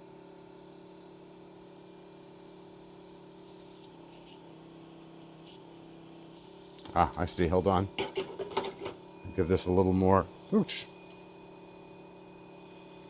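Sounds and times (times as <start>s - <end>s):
electric vacuum pump humming: 0.0s - 13.0s.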